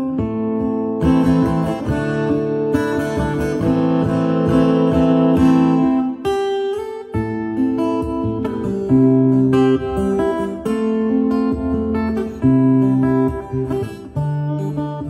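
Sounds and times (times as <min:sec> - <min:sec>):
acoustic guitar music over speaker: 0:00.0 - 0:15.0.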